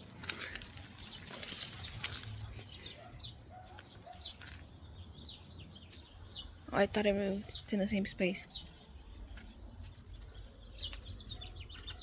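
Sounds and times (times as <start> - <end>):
small bird chirping: 0.8 - 12.0.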